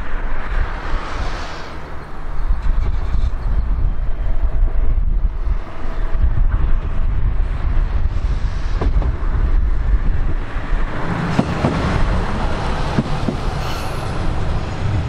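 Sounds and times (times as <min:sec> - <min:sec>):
railcar passing by: 0:00.0 - 0:15.0
wind on microphone: 0:00.0 - 0:15.0.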